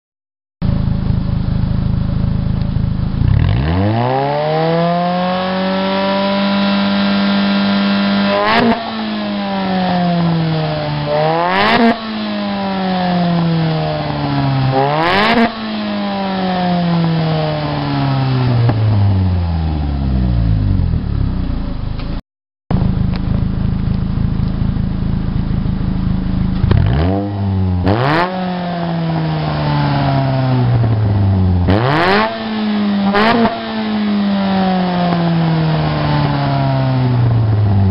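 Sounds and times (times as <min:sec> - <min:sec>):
car engine revving: 0:00.6 - 0:37.9.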